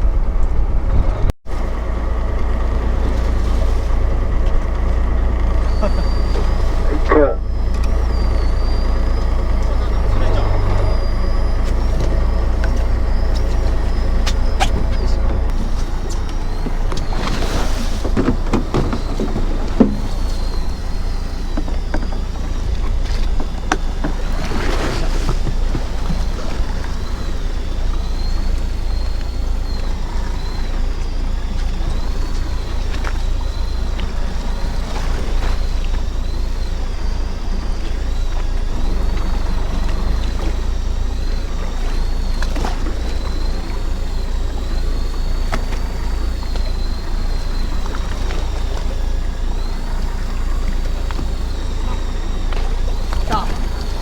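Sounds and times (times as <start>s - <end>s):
boat engine rumbling: 0.0s - 54.0s
water and wind noise: 0.0s - 54.0s
faint high whine: 1.5s - 54.0s.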